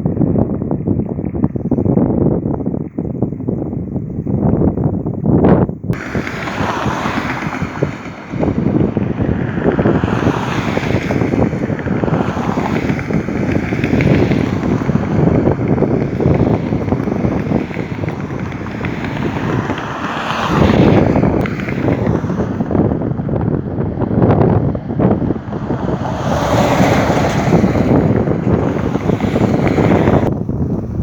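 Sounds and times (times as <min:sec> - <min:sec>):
wind blowing across microphone: 0:00.0 - 0:31.0.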